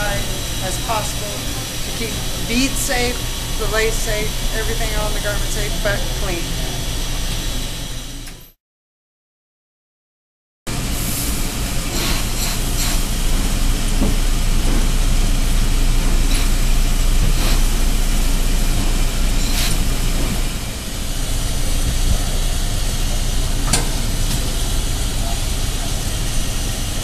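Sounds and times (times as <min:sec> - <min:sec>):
steam press machine drone: 0:00.0 - 0:08.6, 0:10.7 - 0:27.0.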